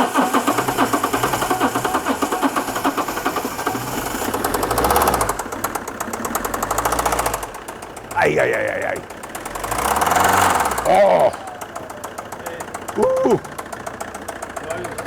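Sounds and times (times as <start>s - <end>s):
diesel engine knocking: 0.0s - 15.0s.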